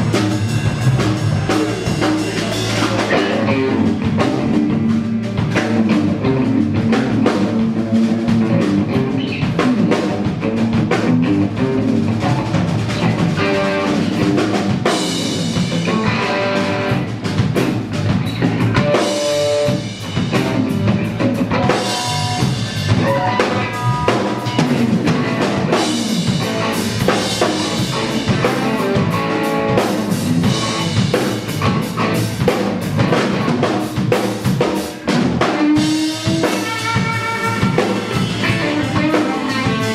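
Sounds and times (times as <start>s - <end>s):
drum kit beat: 0.0s - 39.9s
electric guitar lines: 0.0s - 39.9s
rock band playing live: 0.0s - 39.9s.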